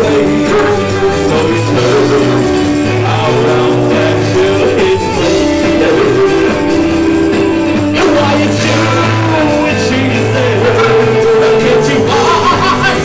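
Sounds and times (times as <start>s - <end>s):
live rock band: 0.0s - 13.0s
person singing: 0.0s - 13.0s.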